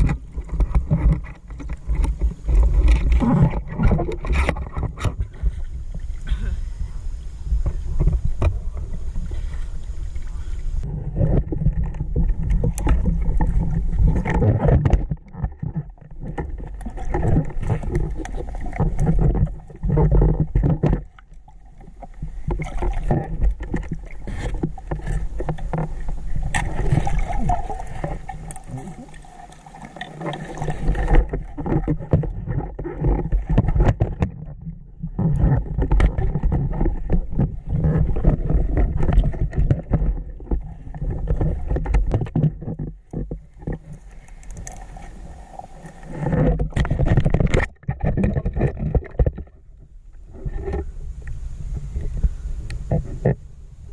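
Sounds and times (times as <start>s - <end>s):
water rushing and sloshing: 0.0s - 53.9s.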